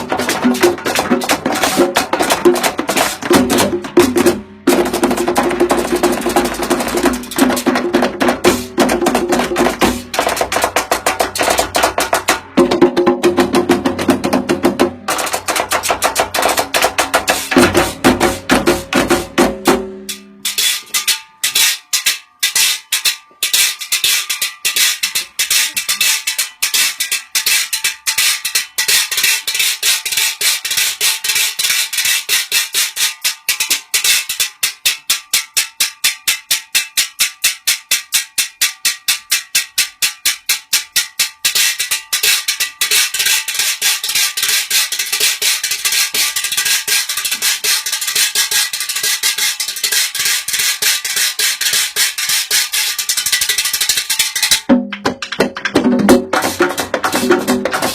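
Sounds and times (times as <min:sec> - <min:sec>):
percussion-heavy music: 0:00.0 - 0:57.9
sharp clicky percussion hits: 0:00.0 - 0:57.9.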